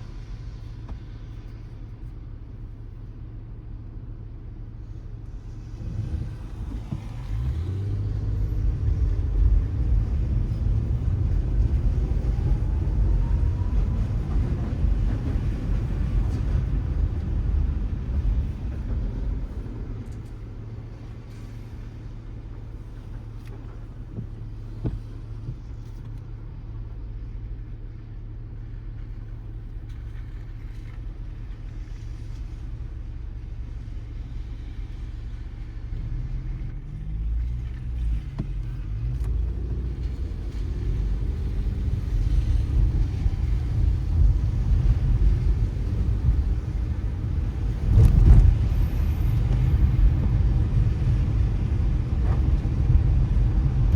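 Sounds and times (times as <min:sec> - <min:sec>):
car driving on wet road: 0:00.0 - 0:53.9.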